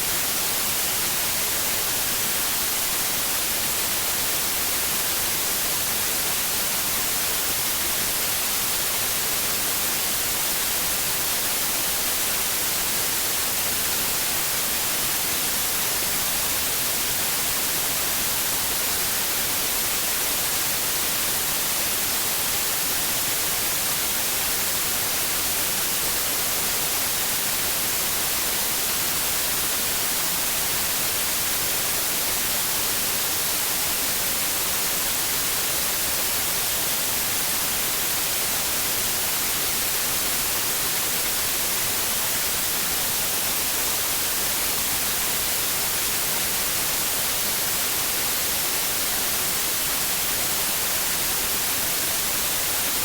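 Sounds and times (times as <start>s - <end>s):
steady white noise hiss: 0.0s - 53.0s.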